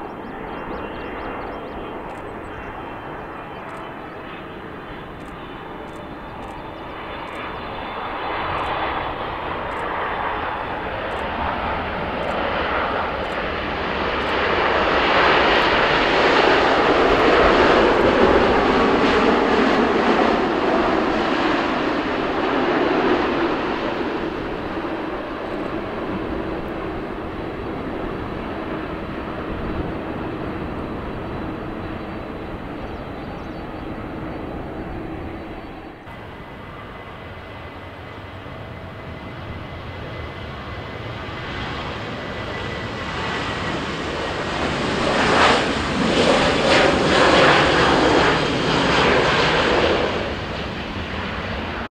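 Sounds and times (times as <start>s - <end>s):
jet airliner engine rush: 0.0s - 51.9s
jet engines during landing rollout: 0.0s - 51.9s.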